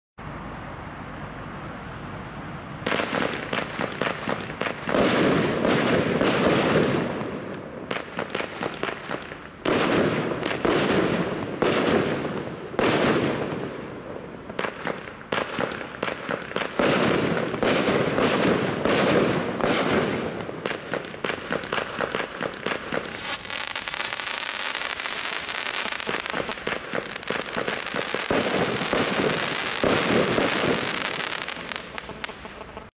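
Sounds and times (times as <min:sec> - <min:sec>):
fireworks crackling: 0:02.8 - 0:32.9
fireworks launching and bursting: 0:02.8 - 0:32.9.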